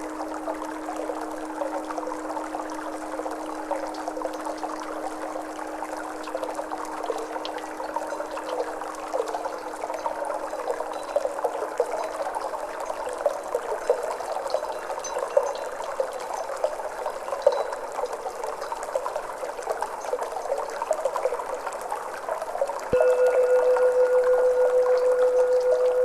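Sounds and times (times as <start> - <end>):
water trickling and bubbling: 0.0 - 26.0.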